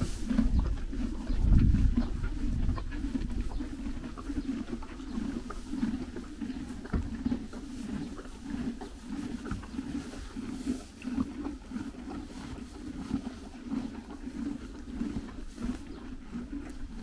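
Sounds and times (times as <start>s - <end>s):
dry hay rustling: 0.0s - 17.0s
horses chewing hay: 0.0s - 17.0s.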